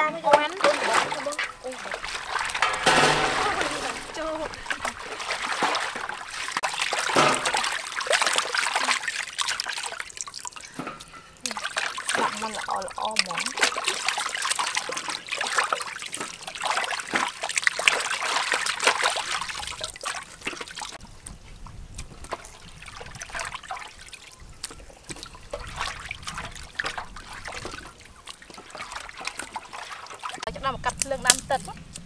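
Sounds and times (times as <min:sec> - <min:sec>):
water splashing and trickling: 0:00.0 - 0:32.0.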